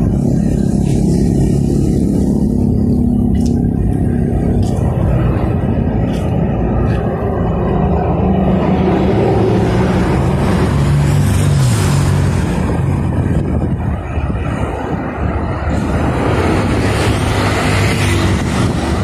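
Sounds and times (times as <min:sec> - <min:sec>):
highway traffic roar: 0:00.0 - 0:19.0
vehicle passing by: 0:00.0 - 0:19.0.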